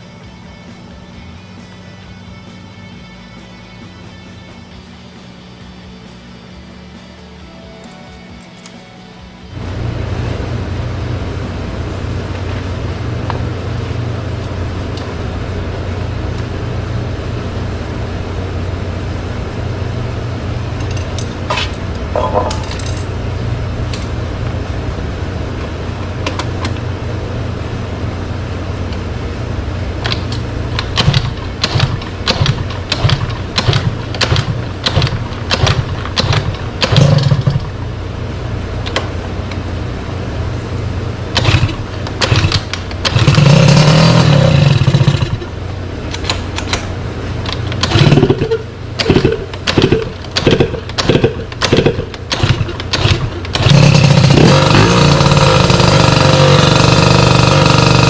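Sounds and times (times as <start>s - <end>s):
scooter engine revving: 9.5s - 58.0s.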